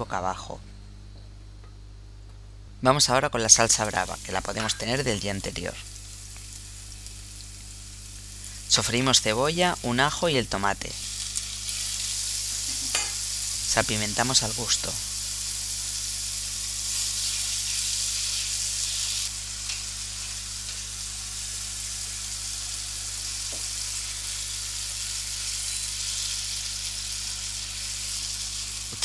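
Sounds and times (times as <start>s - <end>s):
vegetables sizzling in a pan: 3.5s - 29.0s.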